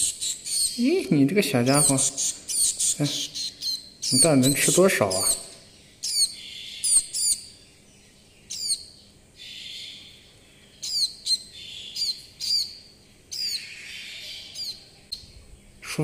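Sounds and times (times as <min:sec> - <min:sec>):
nestling begging chirps: 0:00.0 - 0:16.0.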